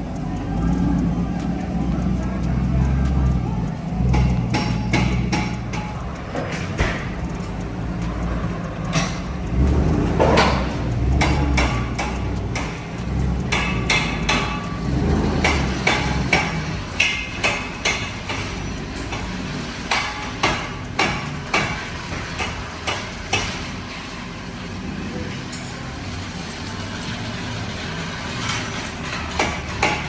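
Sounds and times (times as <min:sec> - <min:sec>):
hammer blows ringing: 0:00.1 - 0:24.0, 0:29.0 - 0:30.0.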